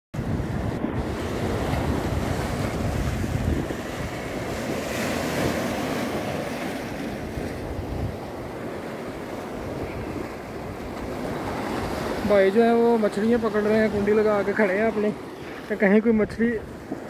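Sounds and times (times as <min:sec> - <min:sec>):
waves breaking on rocks: 0:00.2 - 0:17.0
wind buffeting microphone: 0:00.2 - 0:17.0.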